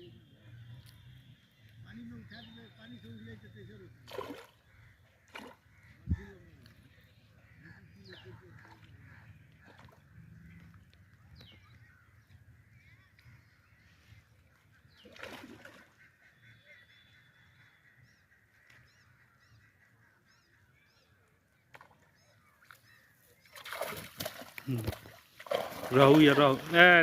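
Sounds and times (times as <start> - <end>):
distant bird calls: 0.0 - 27.0.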